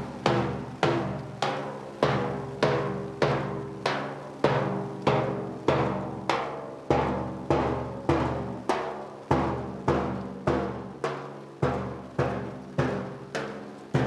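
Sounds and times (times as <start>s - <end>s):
marching bass drum beating: 0.0s - 14.0s.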